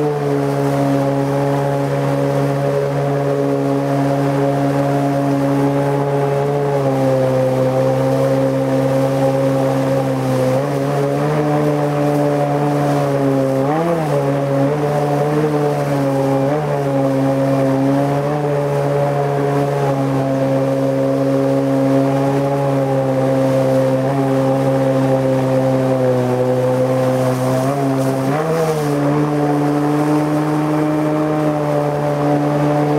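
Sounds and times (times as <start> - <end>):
outboard motor at high revs: 0.0 - 32.9.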